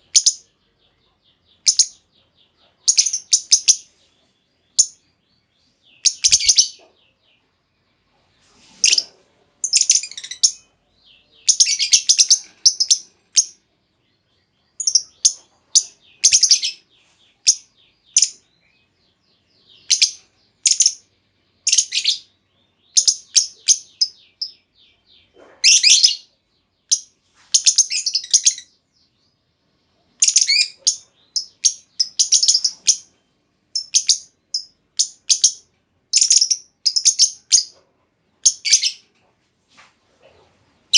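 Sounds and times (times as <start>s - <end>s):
bird chirping high-pitched: 0.0s - 8.0s, 8.7s - 13.6s, 14.2s - 29.2s, 30.1s - 37.8s, 38.4s - 39.1s.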